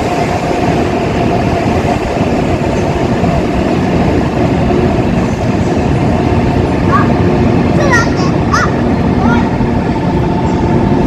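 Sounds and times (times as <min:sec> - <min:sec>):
train approaching rumble: 0:00.0 - 0:11.0.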